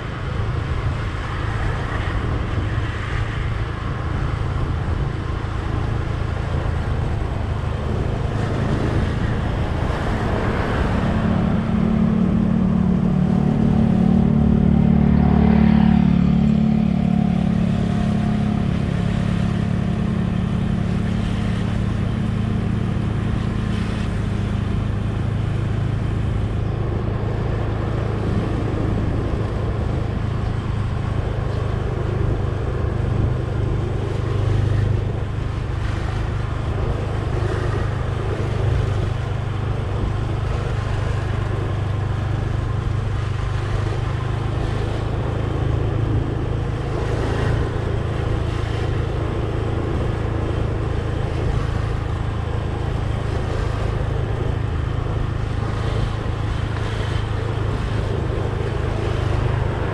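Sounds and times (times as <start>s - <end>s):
vehicle engine cruising: 0.0s - 59.9s.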